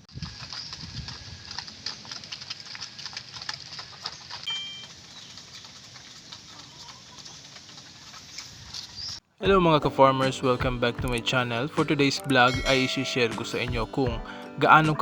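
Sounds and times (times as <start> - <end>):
chickens clicking and tapping: 0.1 - 9.2, 10.5 - 15.0.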